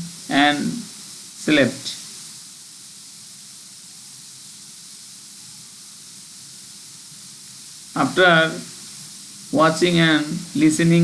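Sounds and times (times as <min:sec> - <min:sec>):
background hiss: 0:00.0 - 0:11.0
faint low hum: 0:00.0 - 0:11.0.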